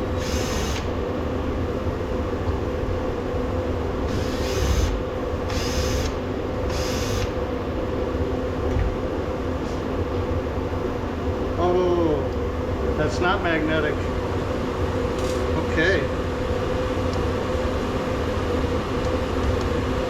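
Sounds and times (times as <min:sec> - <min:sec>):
heater humming: 0:00.0 - 0:20.0.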